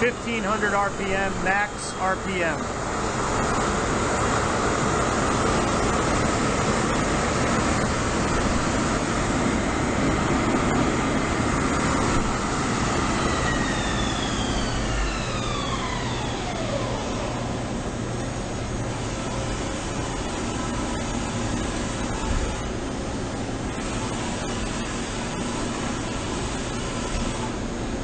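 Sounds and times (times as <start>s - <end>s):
lathe spindle running: 0.0s - 27.9s.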